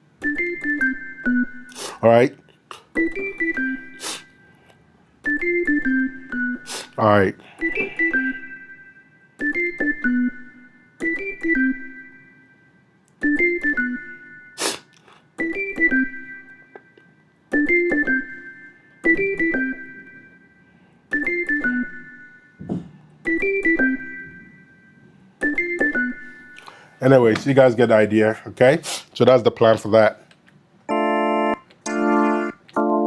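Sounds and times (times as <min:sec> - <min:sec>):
synthesizer organ notes: 0:00.0 - 0:02.3, 0:02.9 - 0:04.4, 0:05.2 - 0:14.6, 0:15.3 - 0:27.3, 0:30.9 - 0:33.0.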